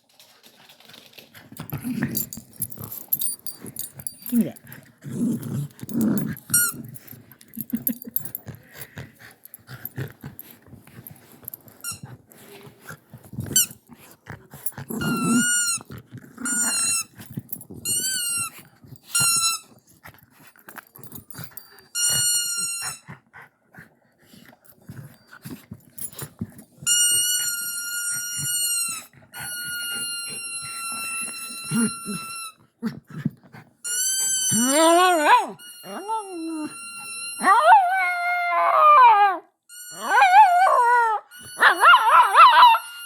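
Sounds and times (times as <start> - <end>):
dog chewing squeaky toy: 1.6 - 12.2, 12.8 - 23.2, 24.8 - 38.3, 39.7 - 43.0.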